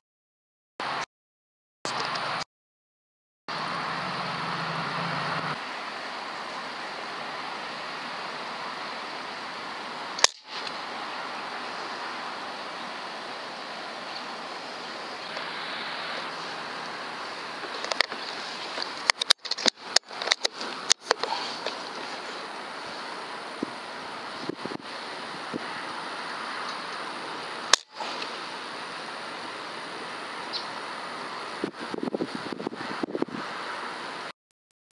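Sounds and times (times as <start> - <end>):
steady background hiss: 3.5 - 34.3.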